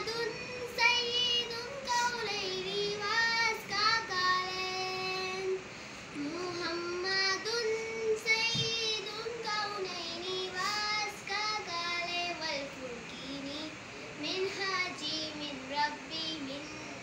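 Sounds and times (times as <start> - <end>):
girl singing unaccompanied: 0.0 - 17.0.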